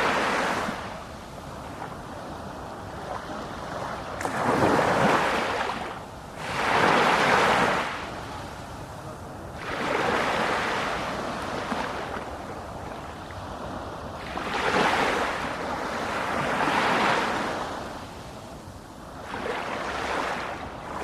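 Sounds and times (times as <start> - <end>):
sea waves breaking on shore: 0.0 - 21.0.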